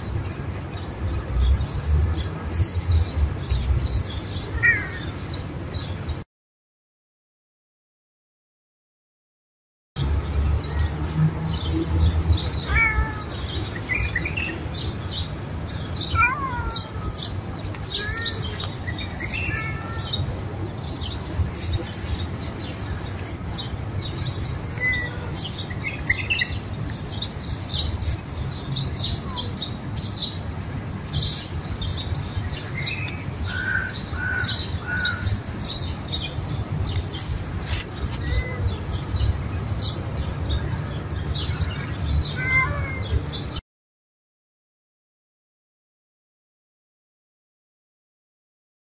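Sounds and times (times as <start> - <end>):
small birds chirping: 0.0 - 6.2, 10.0 - 43.6.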